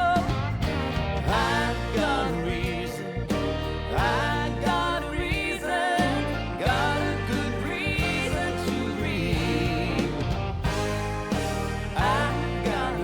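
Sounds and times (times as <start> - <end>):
person singing with vibrato: 0.0 - 10.8, 11.4 - 13.0
country instrumental backing: 0.0 - 13.0.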